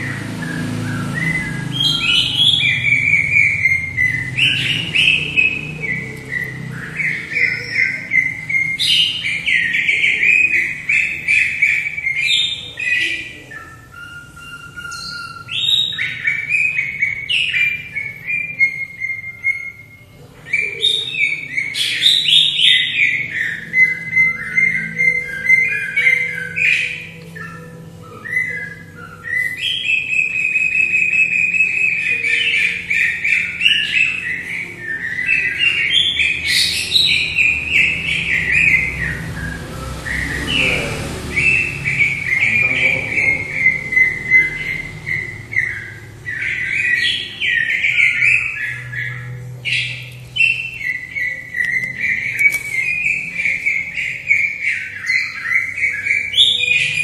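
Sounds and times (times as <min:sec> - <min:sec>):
bird singing chirps and whistles: 0:00.0 - 0:57.0.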